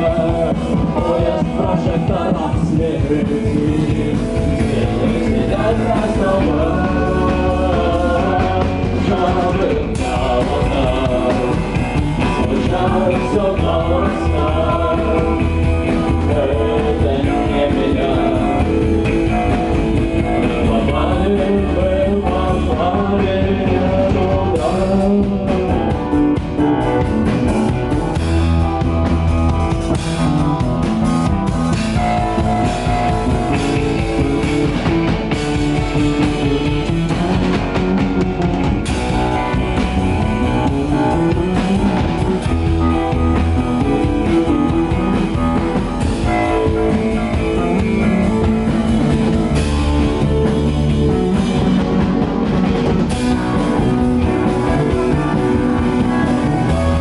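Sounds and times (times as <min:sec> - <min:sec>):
bass guitar: 0:00.0 - 0:57.0
drum kit playing a steady beat: 0:00.0 - 0:57.0
electric guitar: 0:00.0 - 0:57.0.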